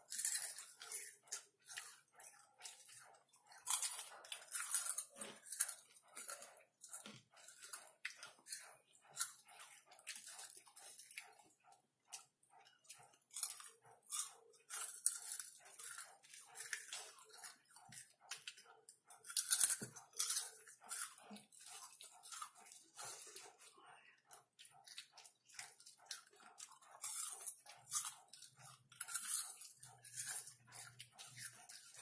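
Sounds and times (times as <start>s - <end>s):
chewing popcorn crunches: 0.0s - 32.0s.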